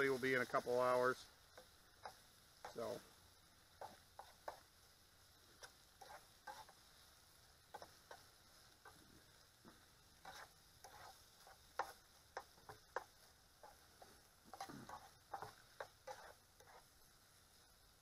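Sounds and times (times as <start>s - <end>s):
faint steady hiss: 0.0s - 18.0s
spatula scraping frying pan: 1.5s - 3.0s, 3.6s - 4.9s, 5.5s - 17.6s.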